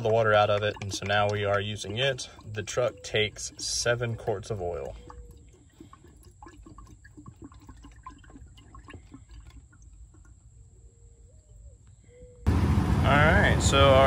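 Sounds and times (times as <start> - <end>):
oil trickling and gurgling: 0.0 - 12.4.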